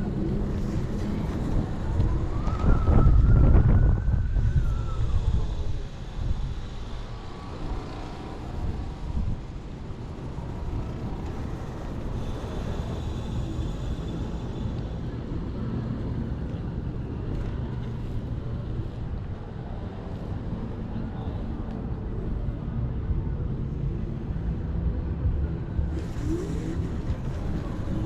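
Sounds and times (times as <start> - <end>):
city traffic: 0.0 - 28.0
wind and road noise: 0.0 - 28.0.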